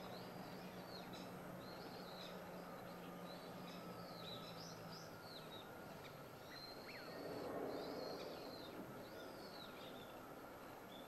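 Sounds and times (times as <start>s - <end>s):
small birds chirping: 0.0s - 10.2s
steady outdoor hiss: 0.0s - 11.0s.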